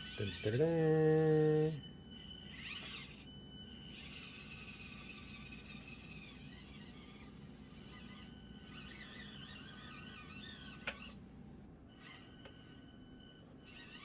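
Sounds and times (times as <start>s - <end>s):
small electric motor whining: 0.0s - 11.3s, 11.9s - 14.0s.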